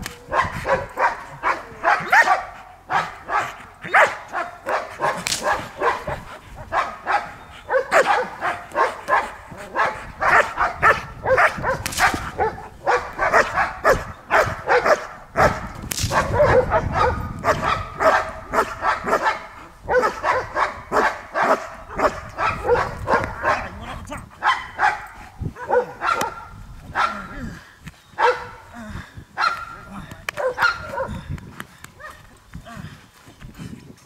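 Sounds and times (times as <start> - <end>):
dog barking rapidly: 0.3 - 23.8, 24.4 - 27.3, 28.2 - 28.6, 30.4 - 31.2.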